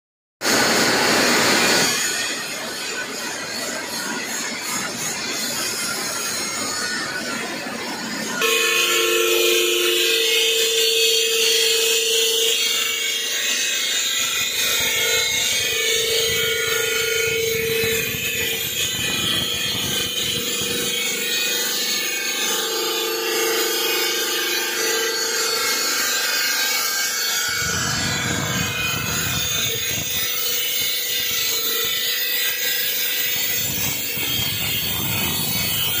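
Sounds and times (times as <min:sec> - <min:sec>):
stone saw hissing and whining: 0:00.4 - 0:36.0.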